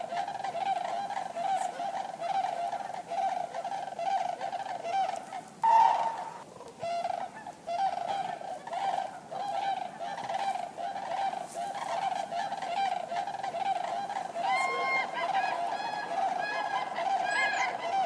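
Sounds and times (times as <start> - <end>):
flock of cranes calling: 0.0 - 18.0.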